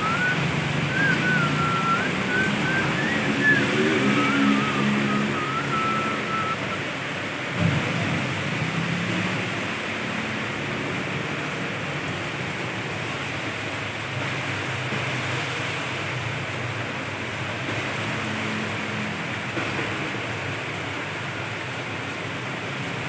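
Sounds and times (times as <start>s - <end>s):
heavy rain hissing: 0.0s - 23.0s
vehicles passing on wet road: 0.0s - 23.0s.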